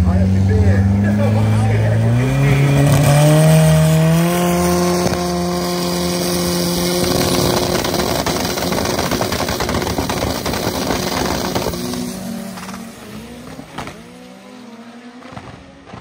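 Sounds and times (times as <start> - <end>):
engine revving and crackling: 0.0 - 16.0.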